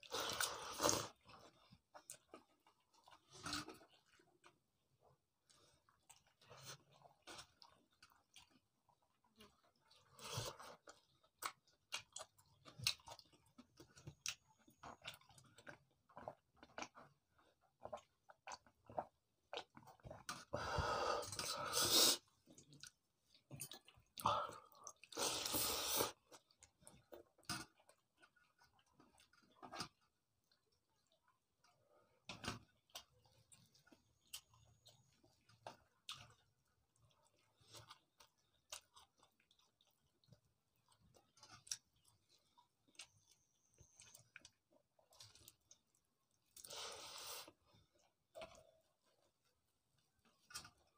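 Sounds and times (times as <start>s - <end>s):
chewing and lip-smacking: 0.0s - 20.5s, 21.2s - 50.9s.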